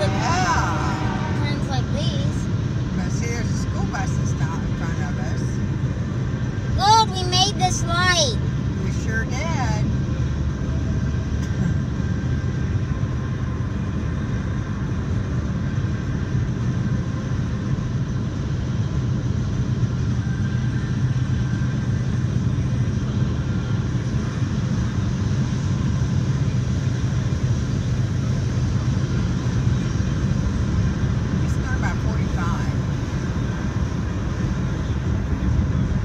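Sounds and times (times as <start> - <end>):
car engine drone: 0.0 - 36.0
road noise inside car: 0.0 - 36.0.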